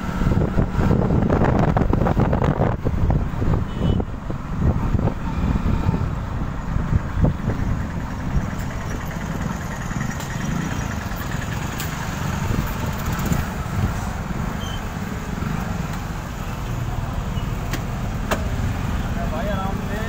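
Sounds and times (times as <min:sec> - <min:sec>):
road and wind noise: 0:00.0 - 0:20.0
vehicle rumbling in traffic: 0:00.0 - 0:20.0.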